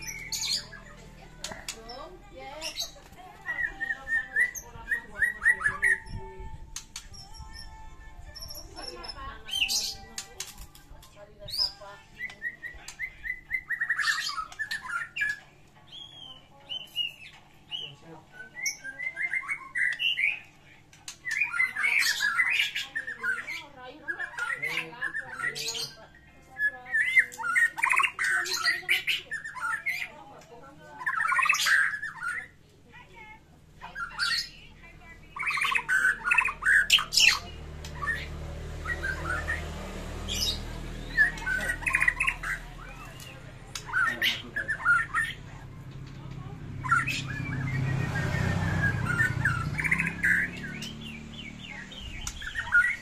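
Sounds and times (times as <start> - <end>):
songbird singing chattering and whistles: 0.0 - 32.6, 33.8 - 53.0.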